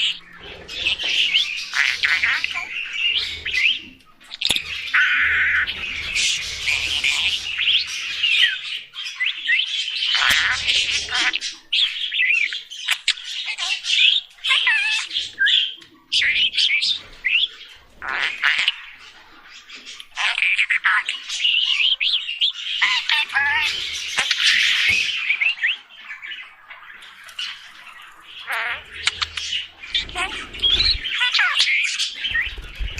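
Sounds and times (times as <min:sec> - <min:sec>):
budgerigars chattering: 0:00.0 - 0:32.9.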